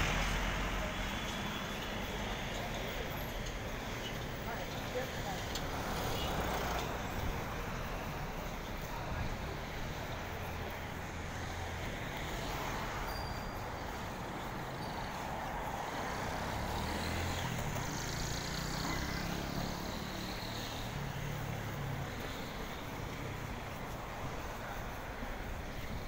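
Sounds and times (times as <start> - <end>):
passing vehicle engines: 0.0 - 26.0
road noise hiss: 0.0 - 26.0.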